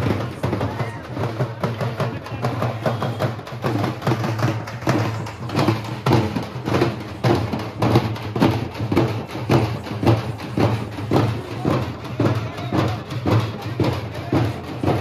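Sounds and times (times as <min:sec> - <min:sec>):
drums beaten hard: 0:00.0 - 0:15.0.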